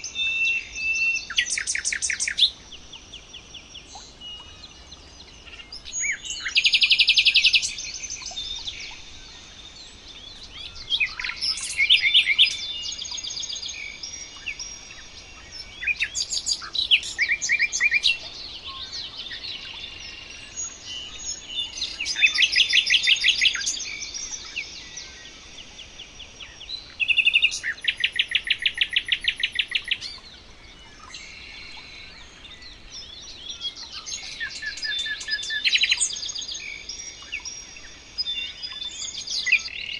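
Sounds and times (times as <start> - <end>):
quiet bird chirping: 0.0 - 39.9
songbird singing fast trills: 0.0 - 39.9.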